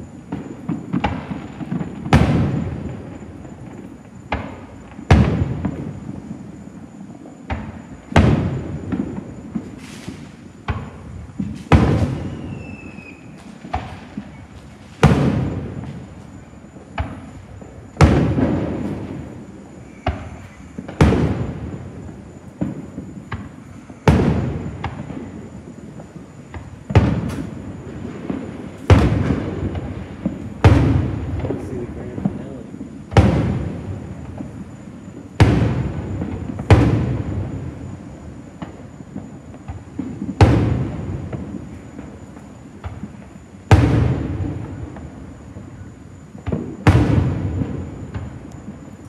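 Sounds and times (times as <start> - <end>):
falling firework whistle: 0.0 - 49.0
fireworks bursting with rumble: 0.0 - 49.0
small firework pops: 0.2 - 6.0, 7.2 - 49.0.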